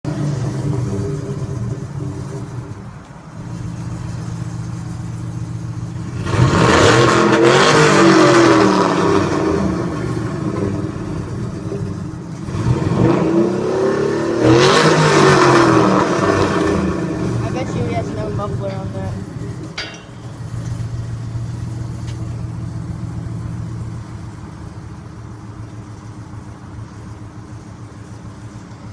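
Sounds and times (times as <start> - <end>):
truck engine revving: 0.0 - 28.9.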